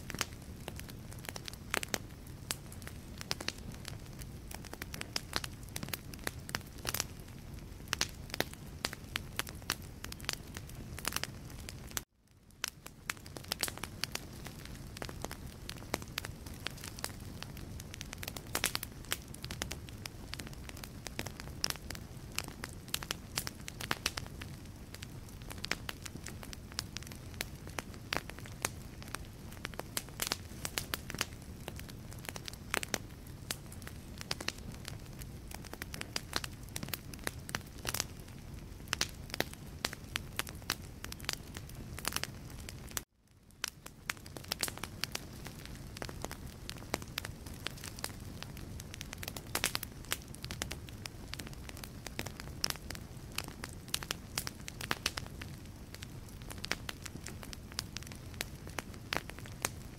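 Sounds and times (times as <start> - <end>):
logs crackling and popping: 0.0 - 59.9
low rumble of flame: 0.0 - 59.9.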